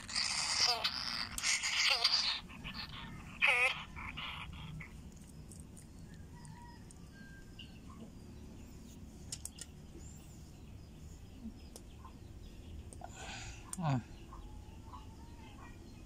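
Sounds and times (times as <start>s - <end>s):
faint bird chirps: 0.0s - 16.0s
low steady hum: 0.0s - 16.0s.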